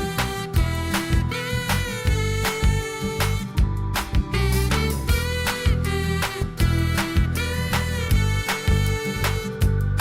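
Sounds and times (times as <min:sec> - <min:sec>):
sliding melody notes: 0:00.0 - 0:09.6.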